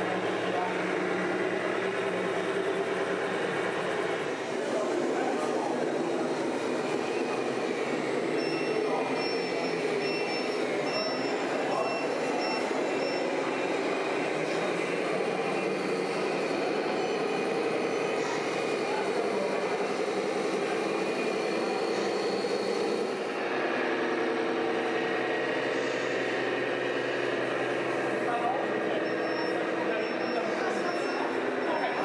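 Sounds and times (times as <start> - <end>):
model trucks running: 0.0 - 32.0.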